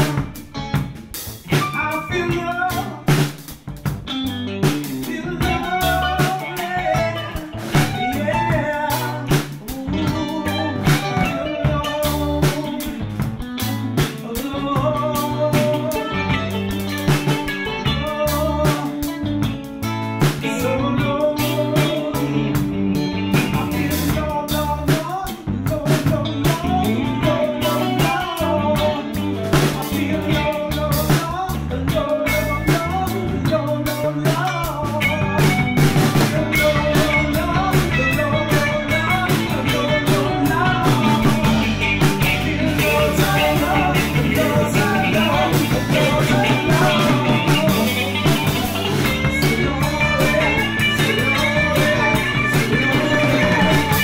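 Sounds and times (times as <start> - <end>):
drum kit: 0.0 - 54.0
electric bass: 0.0 - 54.0
electric guitar melody: 0.0 - 54.0.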